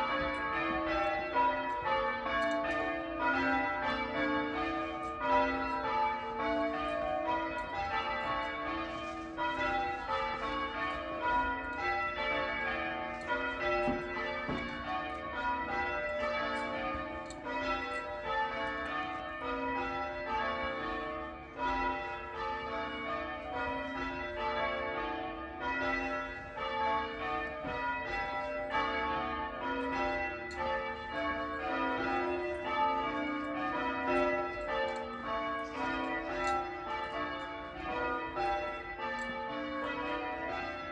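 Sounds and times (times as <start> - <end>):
church bells ringing changes: 0.0 - 40.9.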